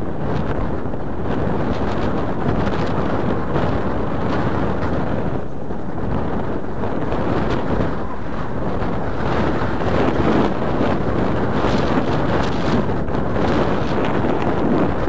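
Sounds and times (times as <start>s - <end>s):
waves washing against seawall: 0.0s - 15.0s
wind buffeting microphone: 0.0s - 15.0s.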